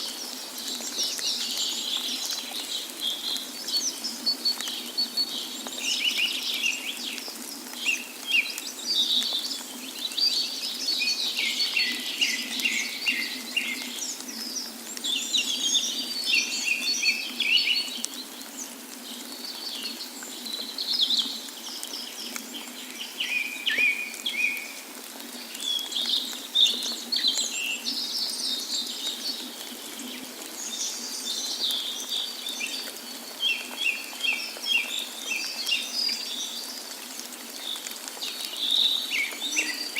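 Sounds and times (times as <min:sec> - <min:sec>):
faint rush of water: 0:00.0 - 0:39.9
small birds chirping: 0:00.0 - 0:39.9.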